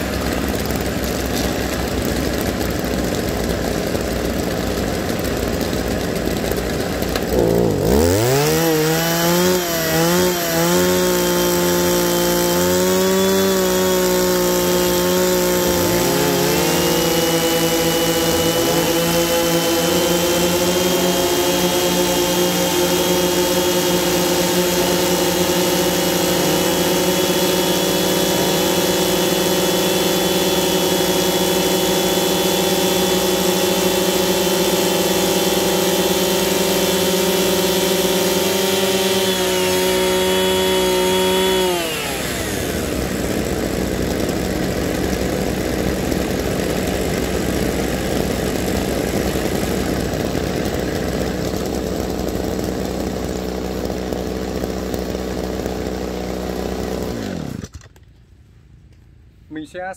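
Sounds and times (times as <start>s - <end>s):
brush cutter engines idling: 0.0s - 59.9s.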